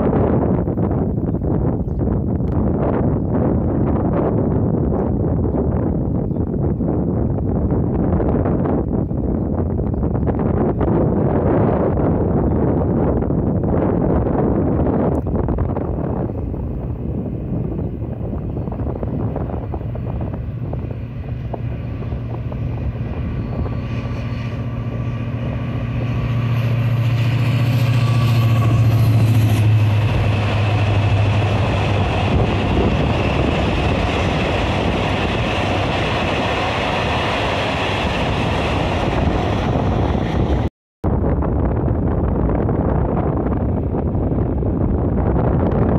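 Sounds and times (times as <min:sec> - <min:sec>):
locomotive engine drone: 0:00.0 - 0:45.9.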